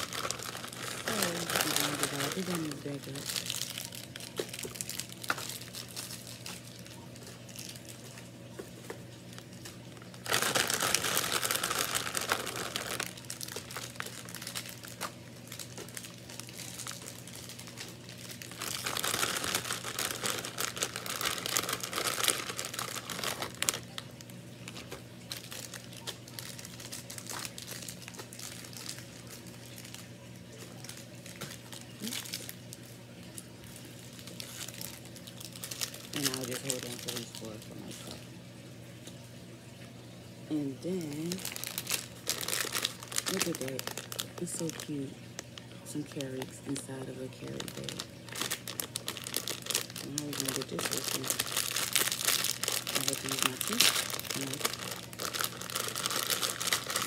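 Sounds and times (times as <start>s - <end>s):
plastic bags crinkling: 0.0s - 38.2s, 40.5s - 57.0s.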